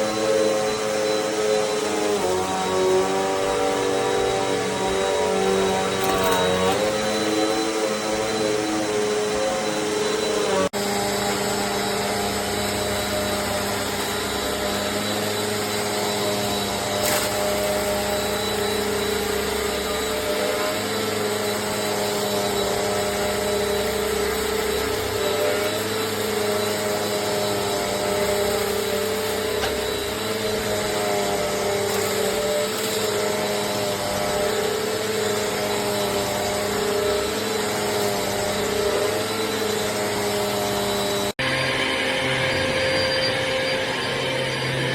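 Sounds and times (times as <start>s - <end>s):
vacuum cleaner motor whining: 0.0s - 44.9s.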